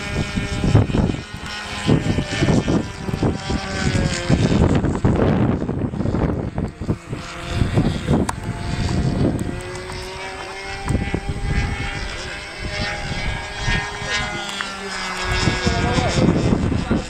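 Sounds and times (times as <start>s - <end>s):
model airplane motor droning: 0.0s - 17.0s
wind rumble: 0.0s - 17.0s.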